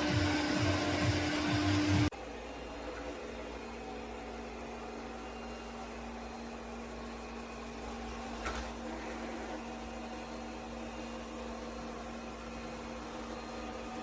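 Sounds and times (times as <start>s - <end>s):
robot vacuum motor hum: 0.0s - 2.2s, 3.0s - 14.0s.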